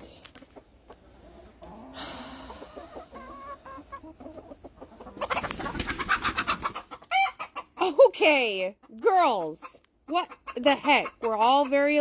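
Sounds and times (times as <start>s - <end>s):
chickens alarm clucking: 0.0s - 12.0s
chickens clucking: 0.0s - 12.0s.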